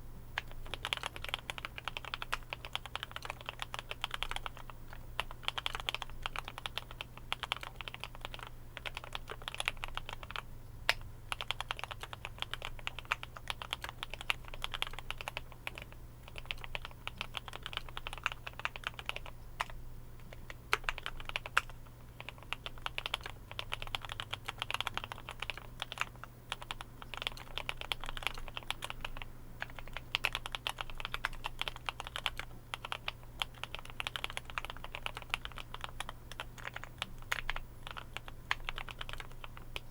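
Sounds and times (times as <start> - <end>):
mechanical keyboard typing: 0.4 - 39.9.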